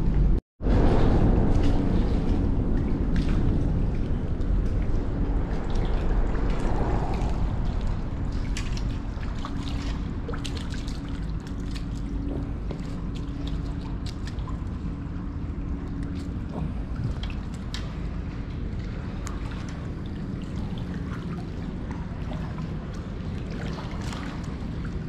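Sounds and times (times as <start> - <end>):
faint steady hum: 0.0 - 25.0
low rumble: 0.0 - 25.0
water trickling and dripping: 1.0 - 25.0.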